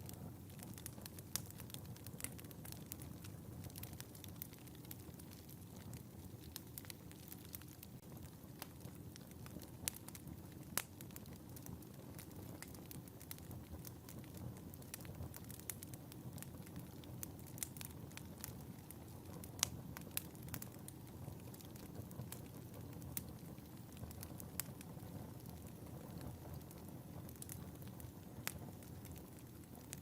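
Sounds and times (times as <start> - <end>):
fire crackles and pops: 0.0 - 30.0.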